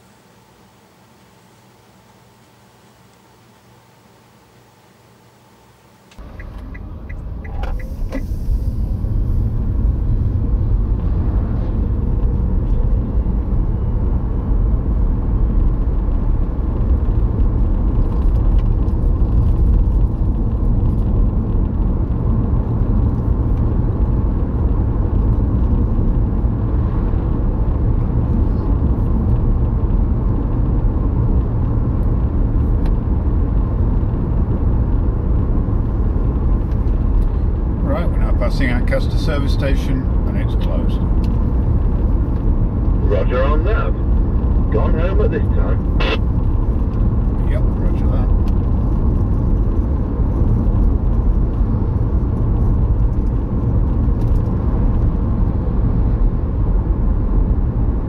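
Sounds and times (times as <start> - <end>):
car interior road and engine rumble: 3.9 - 58.0.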